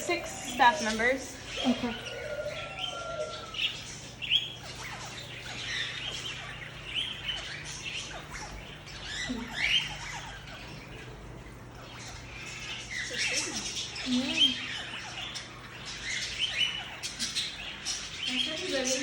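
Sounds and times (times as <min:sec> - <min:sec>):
bird squawk: 0:00.0 - 0:19.0
small birds chirping: 0:00.0 - 0:19.0.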